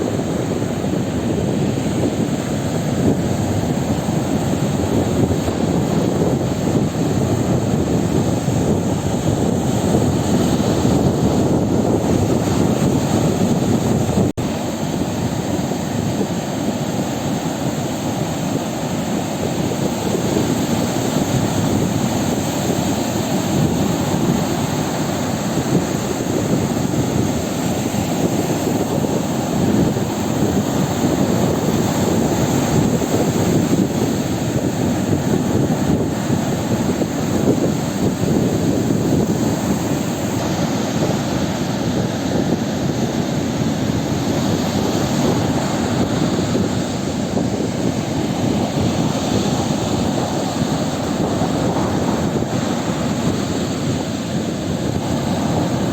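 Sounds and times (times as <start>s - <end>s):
sea surf rushing: 0.0s - 55.9s.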